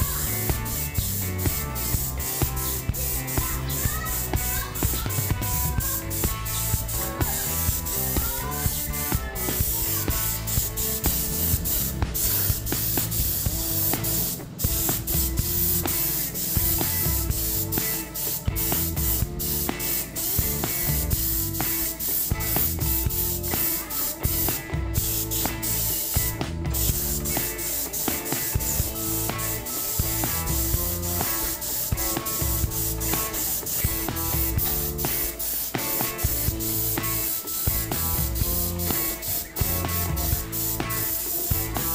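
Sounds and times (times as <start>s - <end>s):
background music with a beat: 0.0s - 41.9s
paint spray gun hissing: 0.0s - 41.9s.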